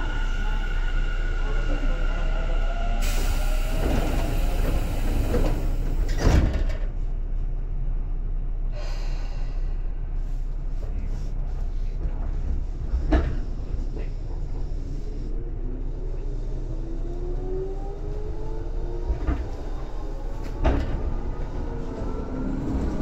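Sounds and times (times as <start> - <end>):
train car low rumble: 0.0 - 23.0.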